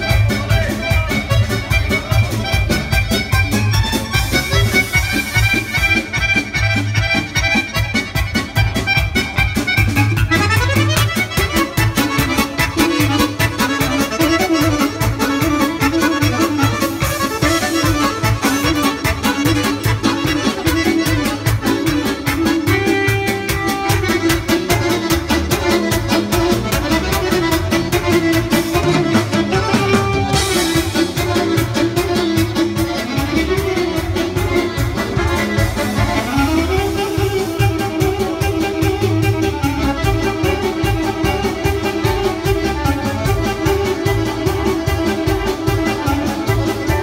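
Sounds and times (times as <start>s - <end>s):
accordion lead melody: 0.0s - 47.0s.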